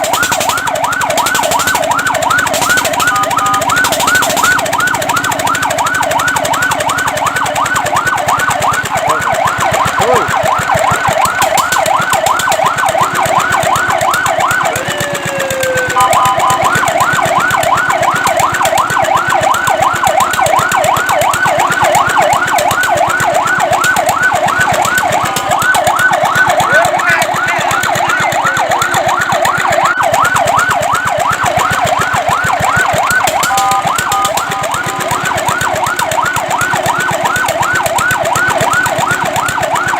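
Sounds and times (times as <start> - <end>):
fire truck siren: 0.0 - 39.9.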